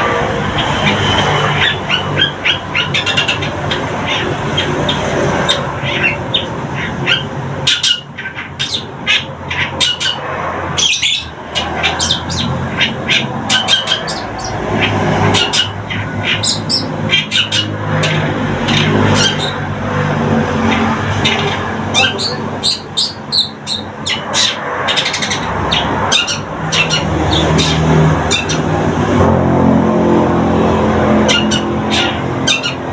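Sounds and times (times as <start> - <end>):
bird chirping and chattering: 0.0 - 28.9, 31.2 - 32.9.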